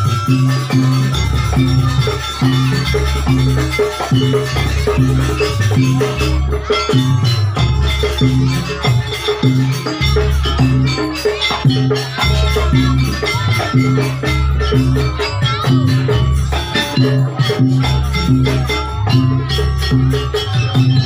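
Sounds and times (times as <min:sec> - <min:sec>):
jingling shaken percussion: 0:00.0 - 0:21.0
low melodic pattern: 0:00.0 - 0:21.0.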